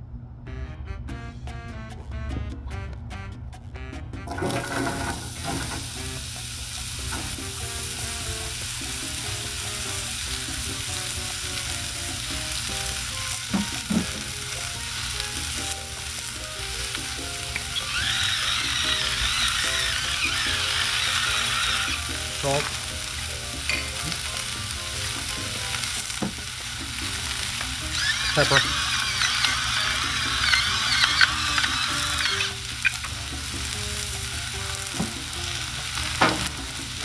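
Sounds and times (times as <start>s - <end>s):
background music: 0.4s - 37.0s
onions sizzling on griddle: 4.4s - 37.0s.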